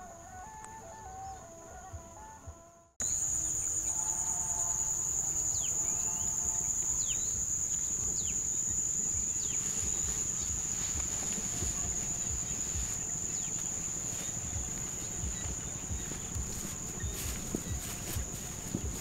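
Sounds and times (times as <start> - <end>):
quiet music: 0.0 - 19.0
bird chirps: 3.0 - 19.0.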